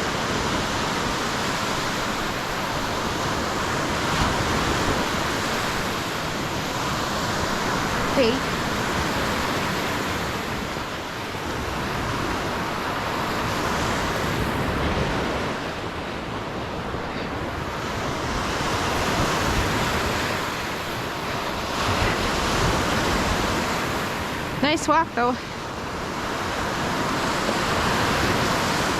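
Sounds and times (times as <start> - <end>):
waves breaking on shore: 0.0 - 28.9
wind buffeting microphone: 0.0 - 28.9.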